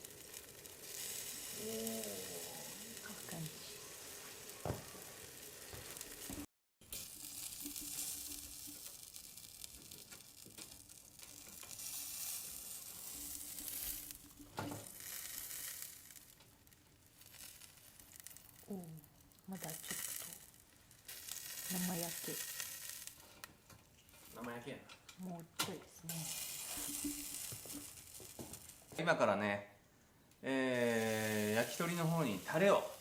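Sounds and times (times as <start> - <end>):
skewers sizzling on a grill: 0.0 - 29.4, 30.4 - 33.0.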